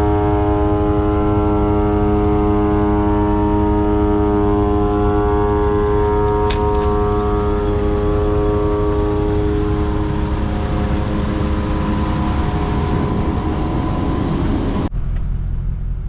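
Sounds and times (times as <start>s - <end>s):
forage harvester running: 0.0s - 14.9s
machine whine: 0.0s - 15.2s.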